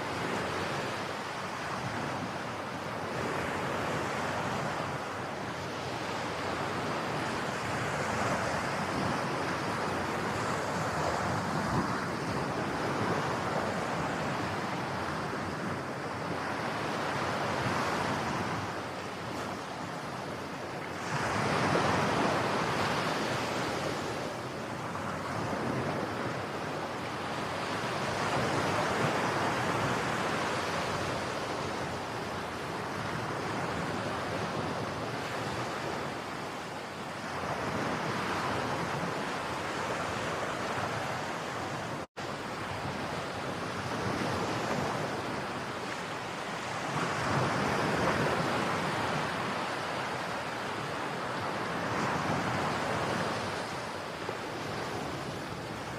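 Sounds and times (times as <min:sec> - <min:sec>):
sea waves washing onto beach: 0:00.0 - 0:55.9.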